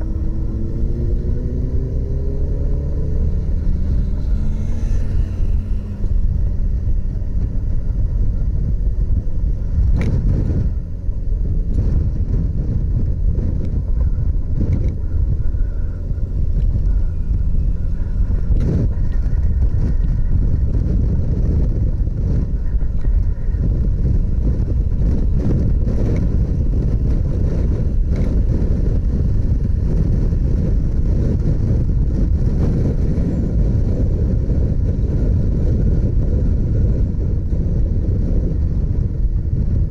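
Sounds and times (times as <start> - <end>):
motorcycle engine rumbling: 0.0 - 39.9
wind buffeting microphone: 0.0 - 39.9.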